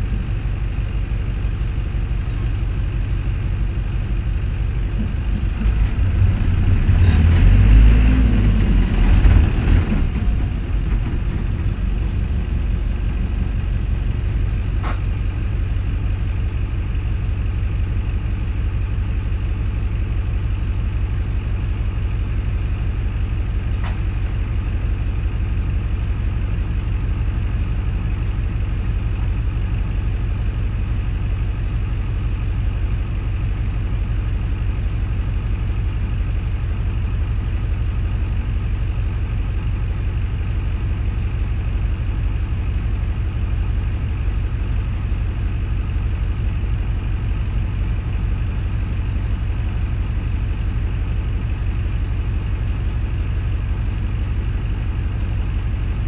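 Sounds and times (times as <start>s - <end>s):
bus diesel engine rumble: 0.0s - 56.0s.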